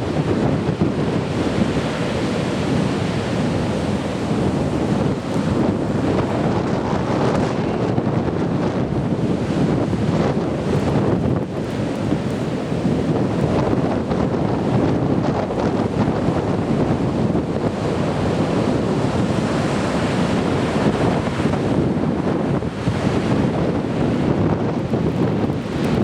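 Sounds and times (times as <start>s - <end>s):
surf breaking on beach: 0.0s - 26.0s
wind buffeting microphone: 0.0s - 26.0s.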